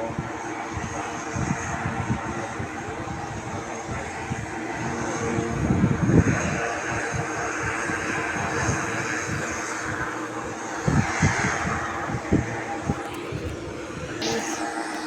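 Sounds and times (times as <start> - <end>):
airplane engine: 0.0 - 15.0.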